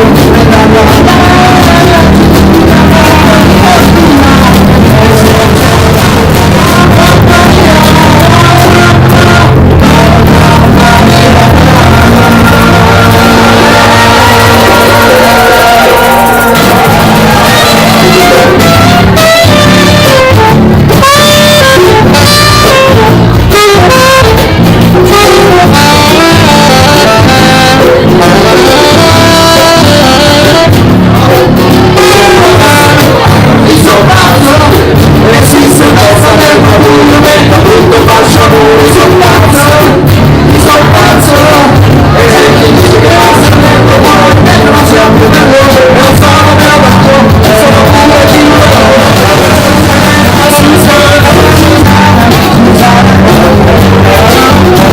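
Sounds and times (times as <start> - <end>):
live band playing loud music: 0.0 - 54.9.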